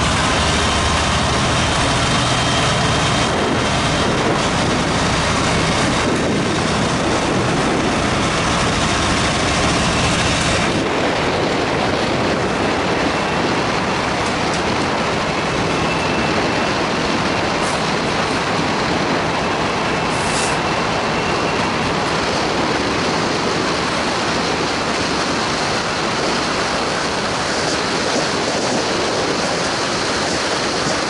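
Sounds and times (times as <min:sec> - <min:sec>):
diesel locomotive engine running: 0:00.0 - 0:31.0
train rumbling on rails: 0:00.0 - 0:31.0
wind and road noise: 0:00.0 - 0:31.0.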